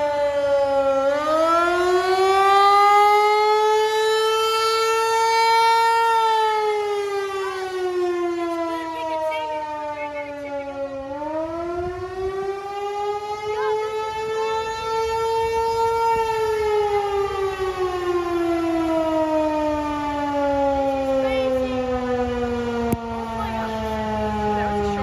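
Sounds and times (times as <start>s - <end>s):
warning siren: 0.0s - 25.0s.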